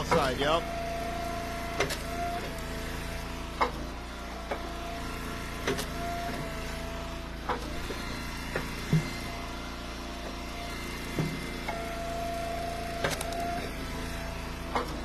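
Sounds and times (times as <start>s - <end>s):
hydraulic whine: 0.0s - 15.0s
wood splitter engine running: 0.0s - 15.0s.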